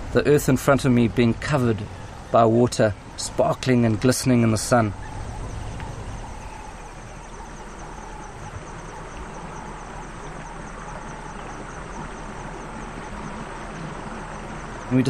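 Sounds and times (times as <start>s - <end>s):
low outdoor rush: 0.0s - 15.0s
insect trilling: 0.2s - 15.0s.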